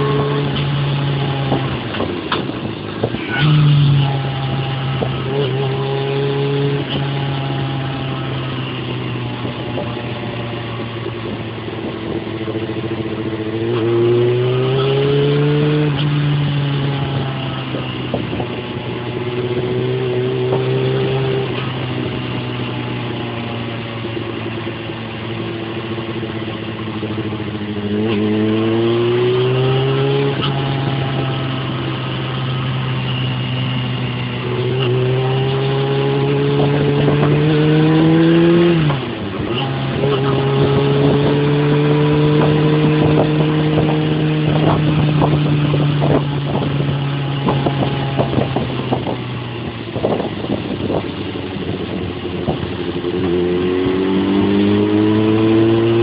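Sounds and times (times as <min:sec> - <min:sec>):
motorcycle engine accelerating: 0:00.0 - 0:56.0
road and wind noise: 0:00.0 - 0:56.0.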